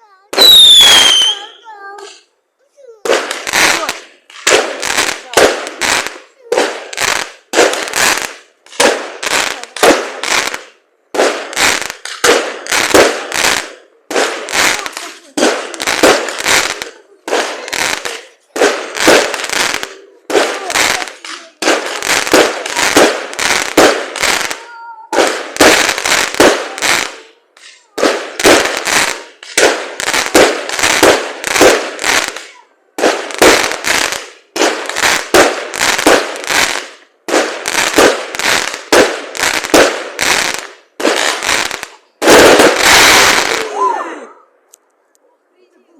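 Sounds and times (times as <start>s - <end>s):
fireworks bangs and crackles: 0.0s - 44.6s.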